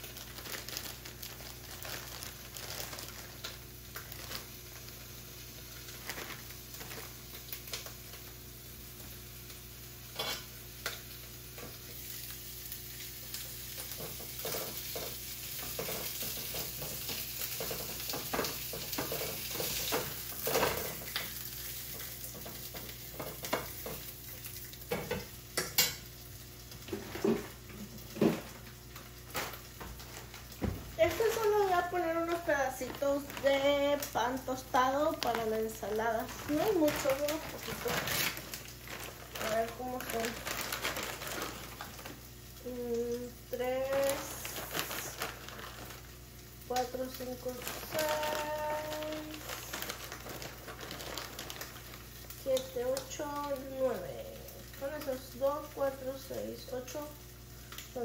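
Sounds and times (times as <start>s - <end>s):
food sizzling in frying pan: 0.0s - 58.0s.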